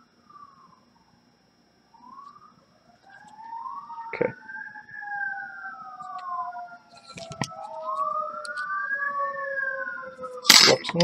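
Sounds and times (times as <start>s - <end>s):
emergency siren wailing: 1.9s - 11.0s.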